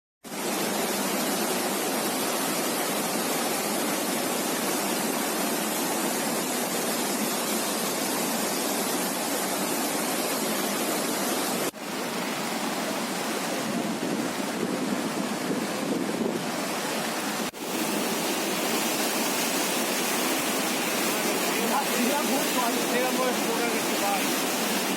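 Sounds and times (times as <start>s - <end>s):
floodwater rushing: 0.3s - 24.9s.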